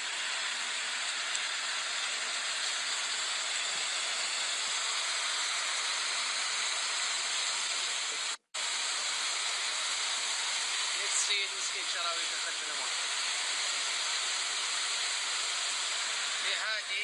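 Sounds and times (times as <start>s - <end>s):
torrential rain: 0.0s - 16.7s.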